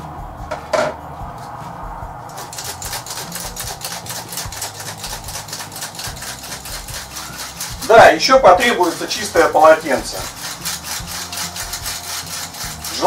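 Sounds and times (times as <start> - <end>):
flour sifter clicking and scraping: 2.3 - 13.0.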